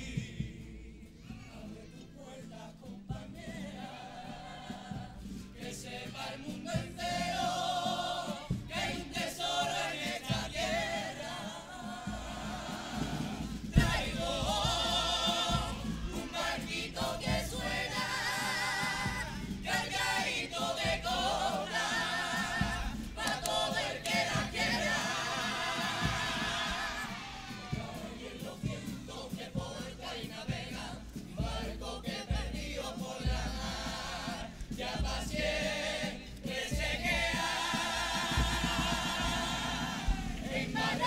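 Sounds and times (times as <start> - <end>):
chorus singing in harmony: 0.0 - 41.0.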